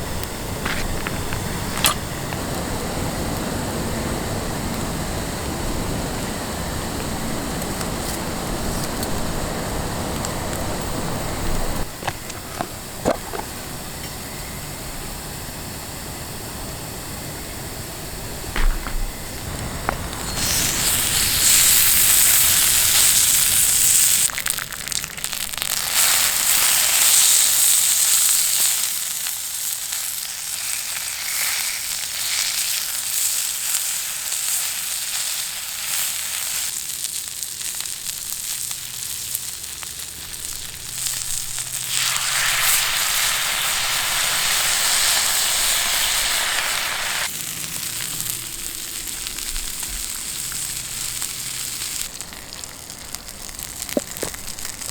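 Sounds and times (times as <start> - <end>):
meat sizzling on a griddle: 0.0 - 12.4, 19.2 - 54.9.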